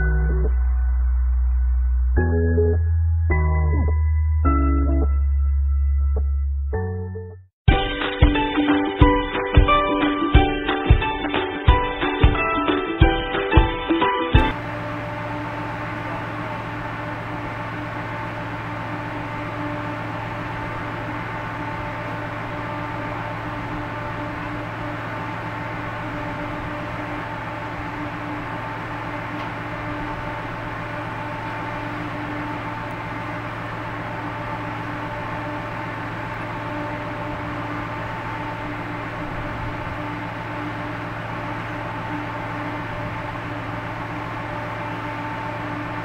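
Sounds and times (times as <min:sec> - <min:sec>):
ship engines droning: 0:00.0 - 0:06.4, 0:14.4 - 0:46.0.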